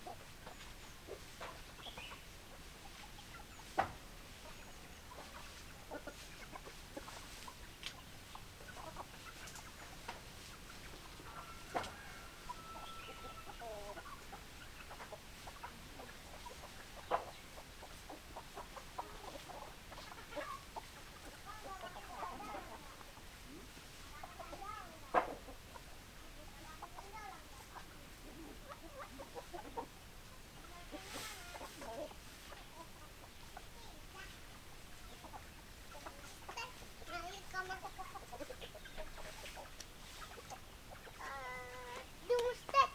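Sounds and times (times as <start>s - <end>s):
hens clucking: 0.0s - 42.9s.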